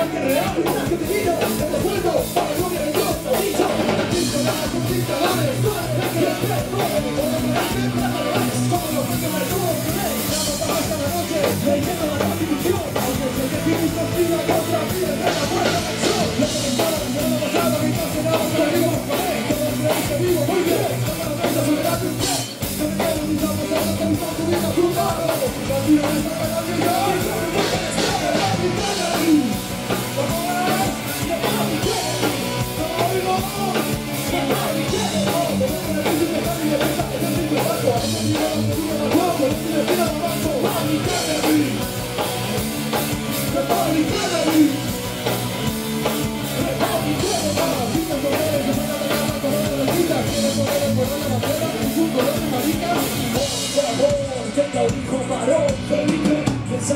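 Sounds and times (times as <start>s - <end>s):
drum kit beat: 0.0s - 56.9s
electric guitar: 0.0s - 56.9s.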